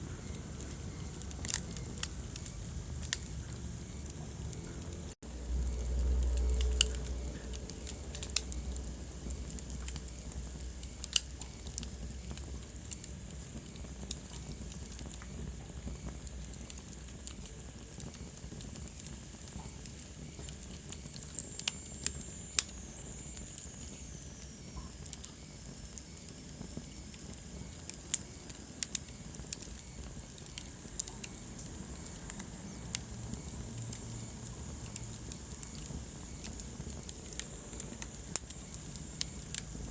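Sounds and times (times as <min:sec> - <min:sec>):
fire hiss: 0:00.0 - 0:39.9
wood fire crackling and popping: 0:00.0 - 0:39.9.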